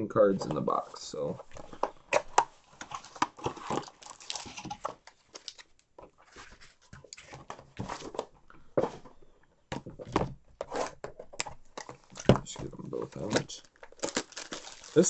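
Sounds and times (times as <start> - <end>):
rustling and tapping of card packs: 0.3 - 15.0.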